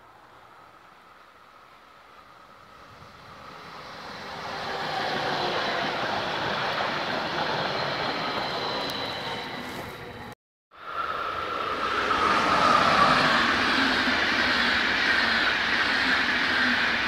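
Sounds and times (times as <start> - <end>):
train wheels rushing on rails: 0.9 - 17.0.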